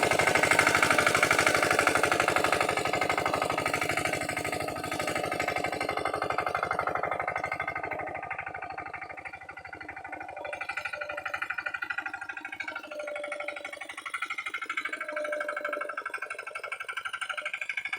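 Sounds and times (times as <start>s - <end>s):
tractor diesel engine chugging: 0.0s - 17.9s.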